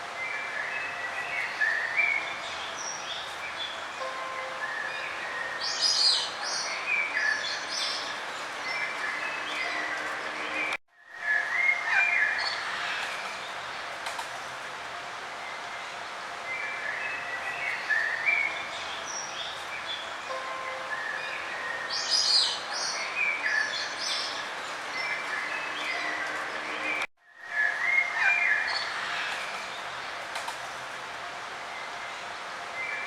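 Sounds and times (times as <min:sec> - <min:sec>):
forest birds chirping and singing: 0:00.1 - 0:33.0.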